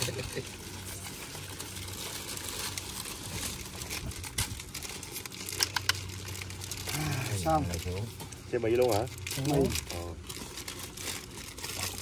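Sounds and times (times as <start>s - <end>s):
material crinkling and rustling: 0.0s - 12.0s.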